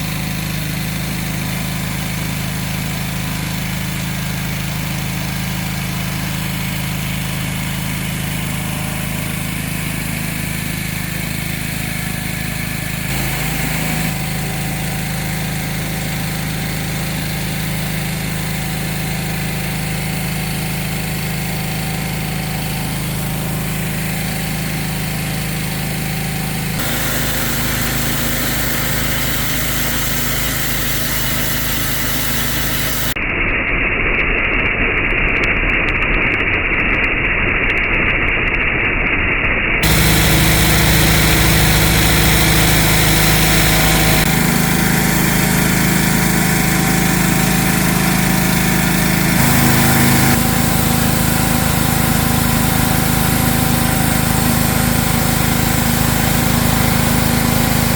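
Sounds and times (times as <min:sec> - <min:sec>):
pressure washer engine running: 0:00.0 - 0:33.2, 0:39.8 - 0:57.9.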